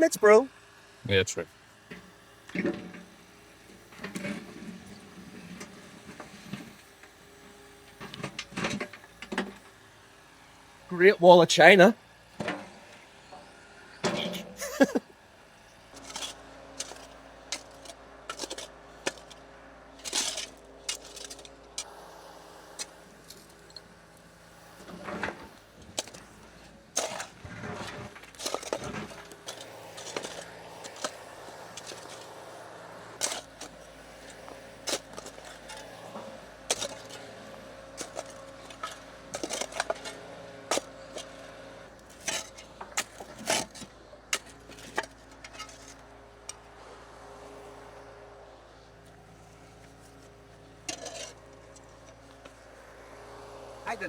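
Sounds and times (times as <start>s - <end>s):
hand tools on concrete rubble: 1.9s - 10.1s, 10.7s - 54.0s.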